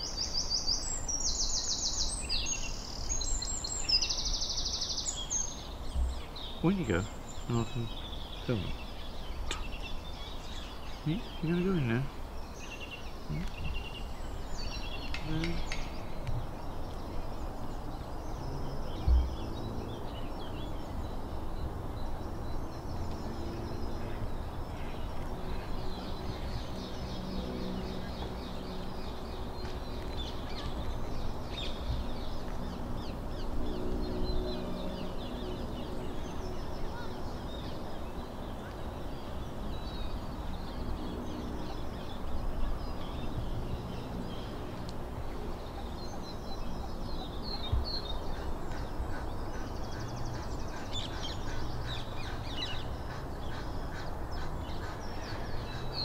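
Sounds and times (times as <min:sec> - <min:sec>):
birds chirping: 0:00.0 - 0:56.0
low outdoor background noise: 0:00.0 - 0:56.0.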